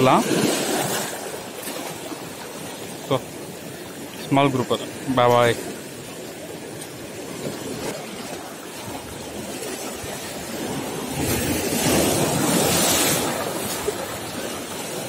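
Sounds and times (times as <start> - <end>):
waves breaking on rocks: 0.0 - 15.0.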